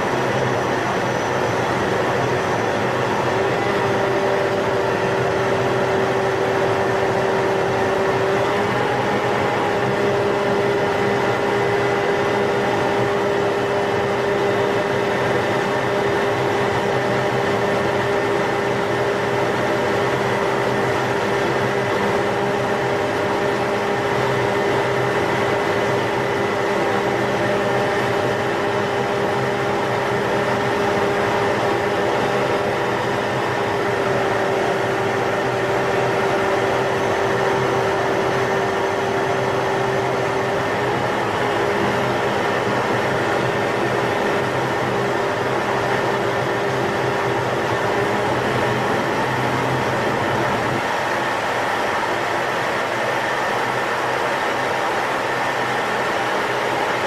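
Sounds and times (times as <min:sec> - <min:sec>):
jet cockpit whine: 0:00.0 - 0:57.0.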